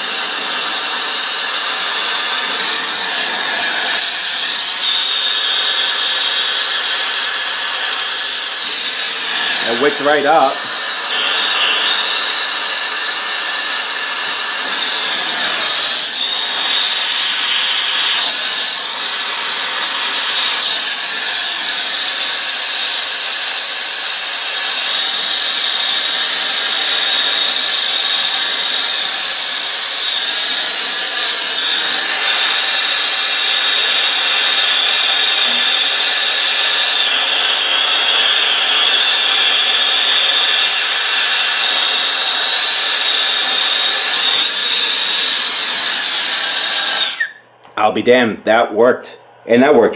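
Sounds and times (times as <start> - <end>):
gas torch hissing and whistling: 0.0 - 47.5.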